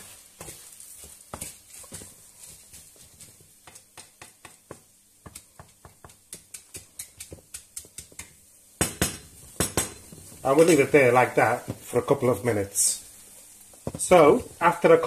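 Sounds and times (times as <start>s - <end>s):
wooden spoon tapping and scraping pan: 0.0s - 12.2s, 13.4s - 15.0s.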